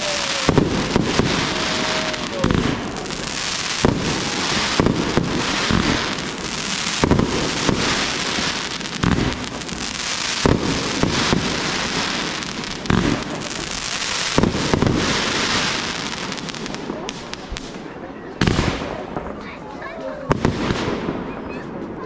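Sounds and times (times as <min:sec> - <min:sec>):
firework shells bursting bangs: 0:00.0 - 0:19.4
fireworks crackling: 0:00.0 - 0:22.0.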